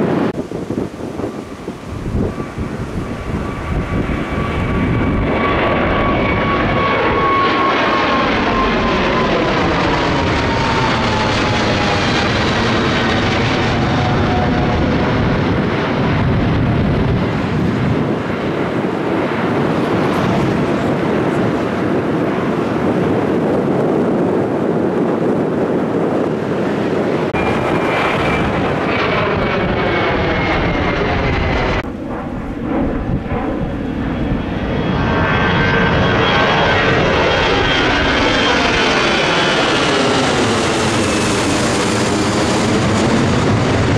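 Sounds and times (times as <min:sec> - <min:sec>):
jet engines climbing overhead: 0:00.0 - 0:43.9.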